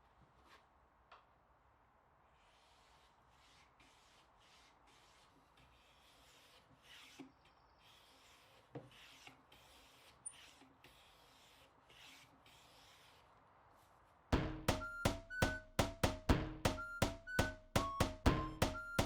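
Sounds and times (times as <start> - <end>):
hand tool stroking wood: 2.4 - 19.0.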